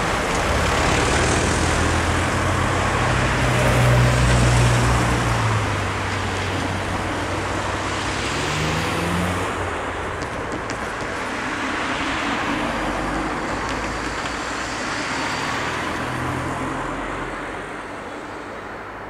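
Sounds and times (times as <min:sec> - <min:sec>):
engine hum: 0:00.0 - 0:17.6
cars driving past: 0:00.0 - 0:19.0.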